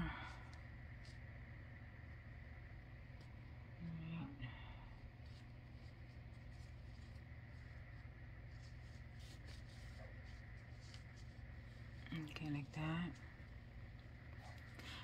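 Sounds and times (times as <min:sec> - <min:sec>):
steady low hum: 0:00.0 - 0:15.0
yarn rustling through stitches: 0:00.0 - 0:15.0.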